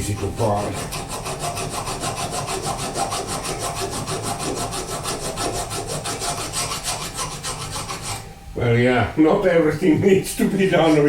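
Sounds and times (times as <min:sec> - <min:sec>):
file rasping against metal: 0:00.0 - 0:08.3, 0:10.2 - 0:11.0.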